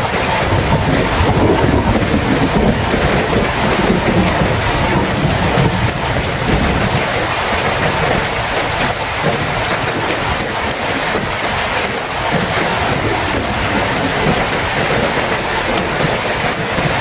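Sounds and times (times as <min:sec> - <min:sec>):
heavy rain: 0:00.0 - 0:17.0
low thunder rumble: 0:00.0 - 0:17.0.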